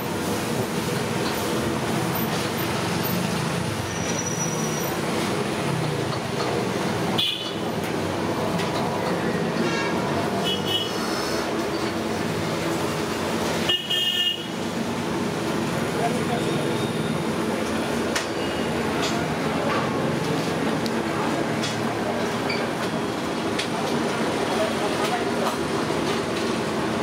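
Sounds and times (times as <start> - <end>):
passing traffic rumbling: 0.0 - 27.0.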